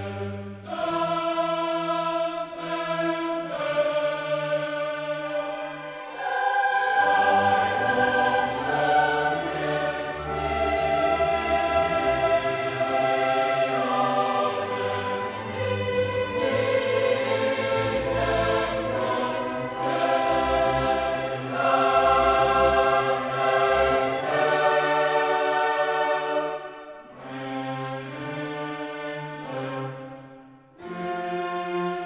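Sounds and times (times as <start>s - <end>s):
choir singing slow chords: 0.0s - 31.4s
orchestral accompaniment: 2.6s - 32.0s.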